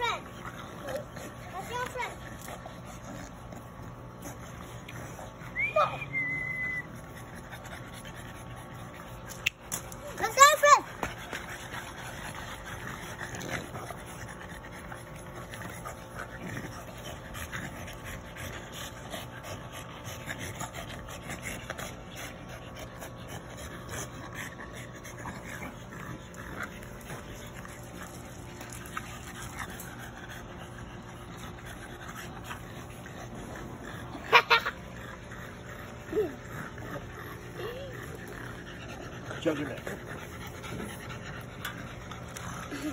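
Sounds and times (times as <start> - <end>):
dogs playing: 0.0 - 42.9.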